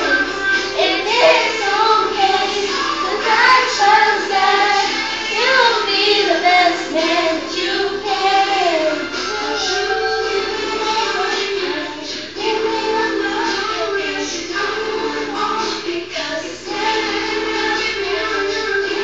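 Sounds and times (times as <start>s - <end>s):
girl singing: 0.0s - 19.0s.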